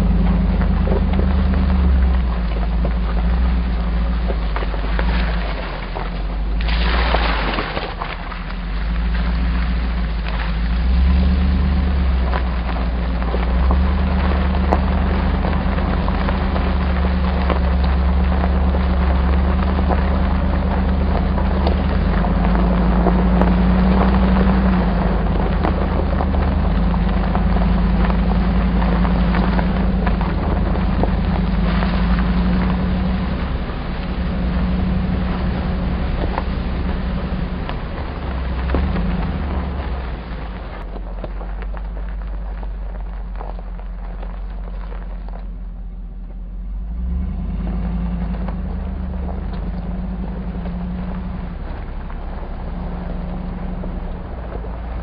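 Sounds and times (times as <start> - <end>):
engine running inside cab: 0.0 - 55.0
tyre noise on gravel: 0.0 - 55.0.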